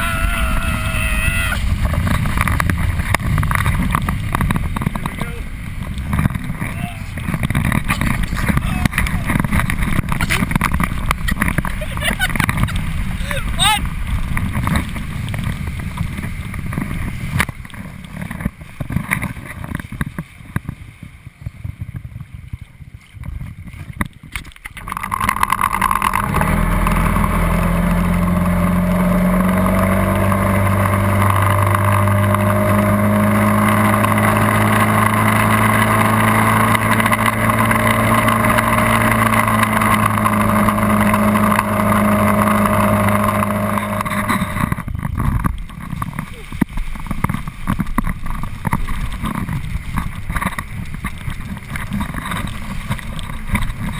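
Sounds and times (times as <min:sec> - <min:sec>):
outboard motor running: 0:00.0 - 0:53.9
wind and water buffeting camera: 0:00.0 - 0:53.9.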